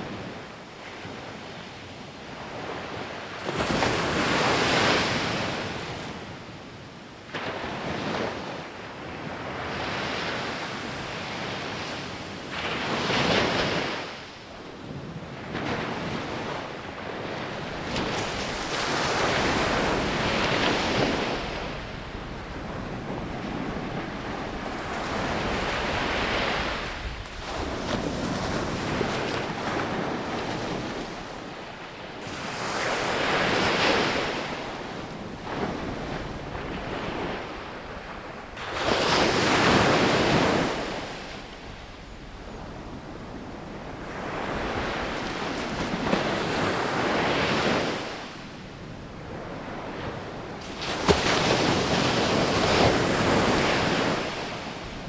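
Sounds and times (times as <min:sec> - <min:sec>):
sea waves breaking on a beach: 0:00.0 - 0:55.0.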